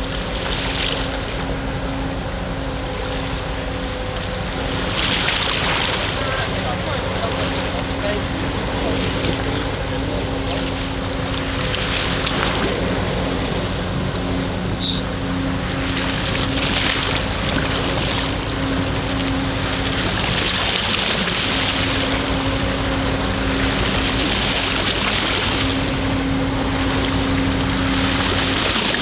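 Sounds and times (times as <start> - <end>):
boat engine humming: 0.0 - 29.0
water rushing: 0.0 - 29.0
wind: 0.0 - 29.0.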